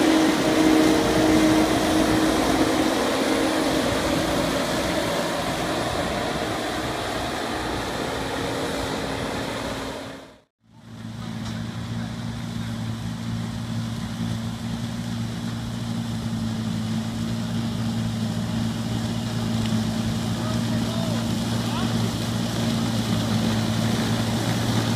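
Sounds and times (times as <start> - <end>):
harvester diesel engine drone: 0.0 - 24.9.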